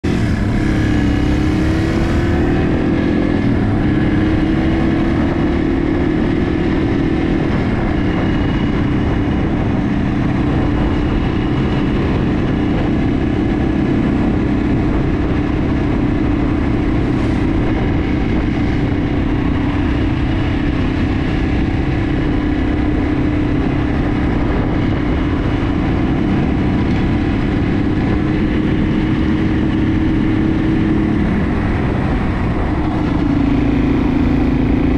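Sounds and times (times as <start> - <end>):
motorcycle engine cruising: 0.0 - 34.9
wind rush on microphone: 0.0 - 34.9.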